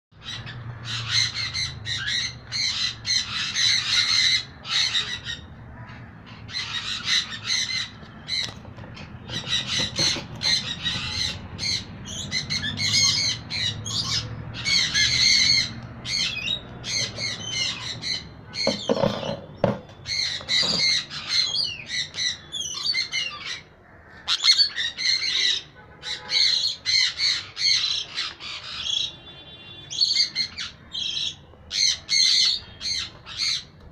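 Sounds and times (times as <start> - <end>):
parrot screeching: 0.2 - 19.4, 20.0 - 29.2.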